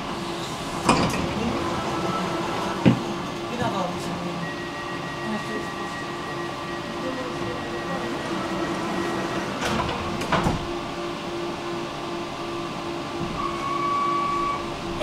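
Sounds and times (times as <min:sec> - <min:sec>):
tram running: 0:00.0 - 0:15.0.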